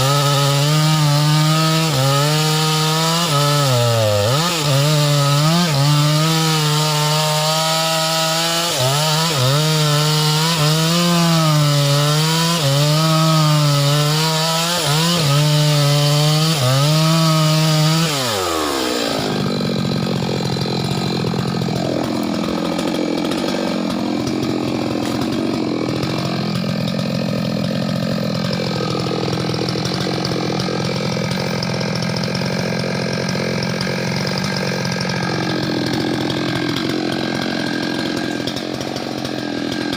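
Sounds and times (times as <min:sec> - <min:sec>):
chainsaw cutting wood: 0:00.0 - 0:39.9
faint rough chainsaw: 0:00.0 - 0:39.9.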